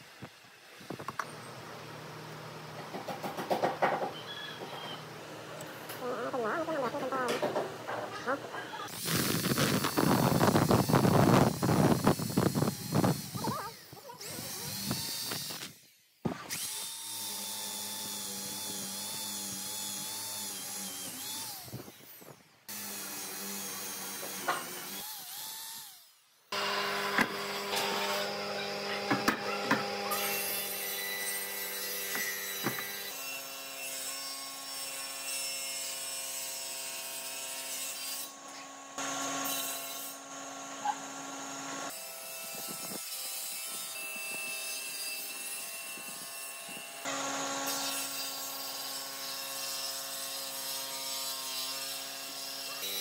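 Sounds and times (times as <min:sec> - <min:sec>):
electric drill boring into wood: 0:08.9 - 0:53.0.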